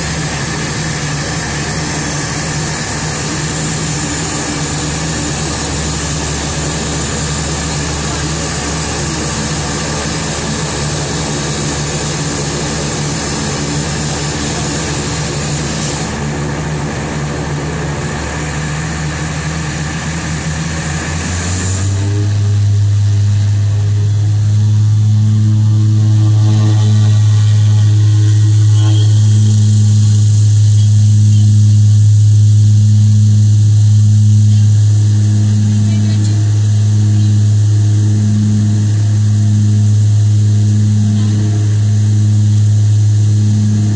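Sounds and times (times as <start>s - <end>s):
high turbine whine: 0.0s - 43.9s
propeller drone: 0.0s - 43.9s.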